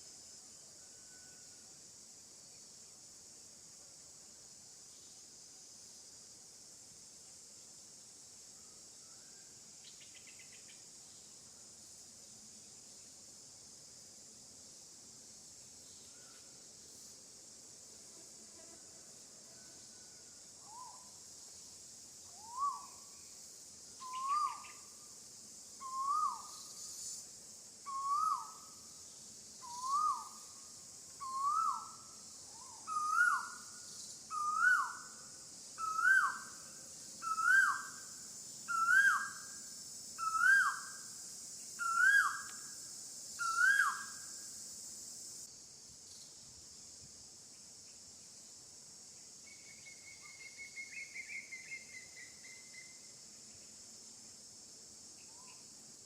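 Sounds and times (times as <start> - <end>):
insect buzzing: 0.0 - 56.0.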